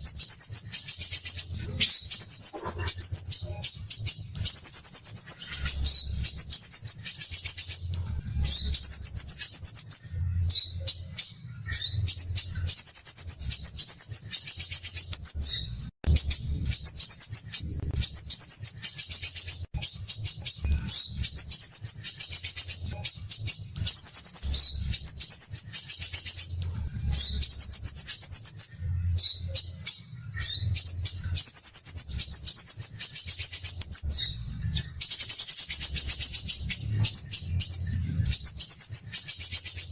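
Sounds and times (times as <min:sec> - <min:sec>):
bird singing harsh trills: 0:00.0 - 0:39.9.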